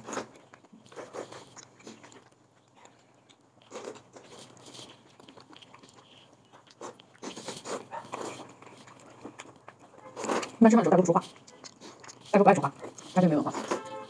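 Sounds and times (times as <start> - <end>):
person chewing and eating: 0.0 - 14.0.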